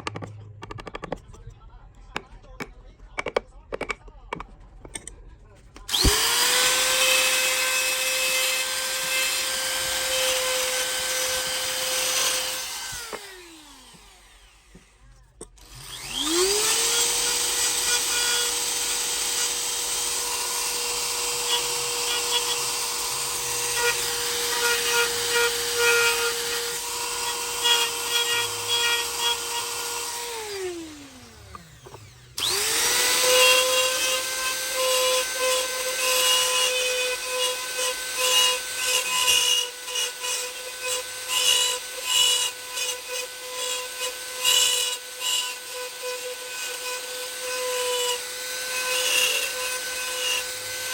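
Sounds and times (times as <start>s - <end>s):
power tool motor whine: 5.8s - 15.0s, 15.6s - 50.9s
wood cutting and rubbing: 5.8s - 50.9s.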